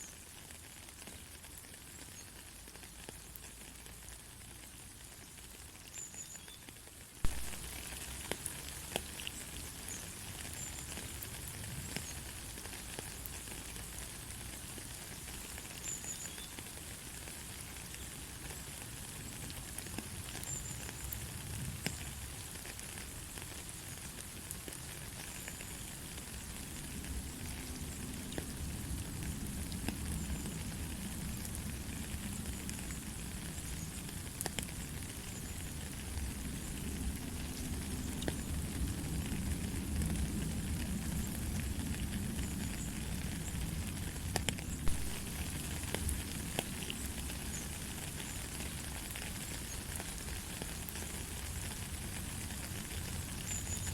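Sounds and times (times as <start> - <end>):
light rain falling: 0.0 - 53.9
raindrops ticking: 0.2 - 53.9.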